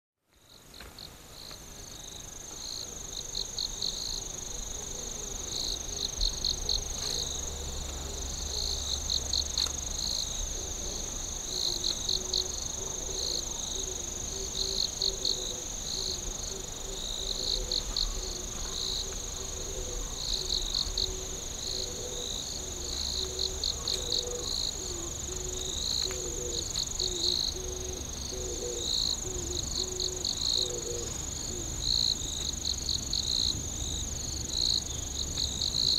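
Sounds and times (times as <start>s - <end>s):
rapid insect chirps: 0.5s - 35.9s.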